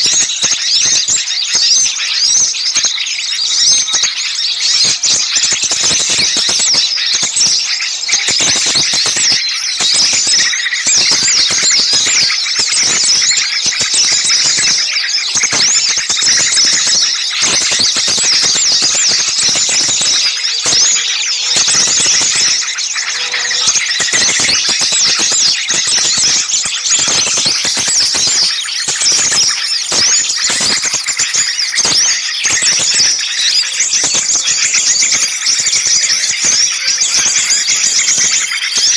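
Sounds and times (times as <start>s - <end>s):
songbirds chattering and calling: 0.0s - 38.9s.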